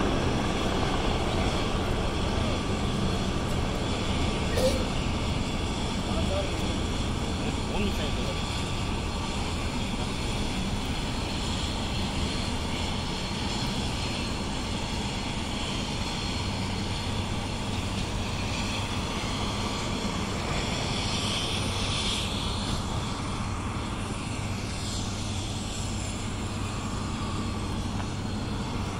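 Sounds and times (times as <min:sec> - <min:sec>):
distant helicopters flying: 0:00.0 - 0:28.9.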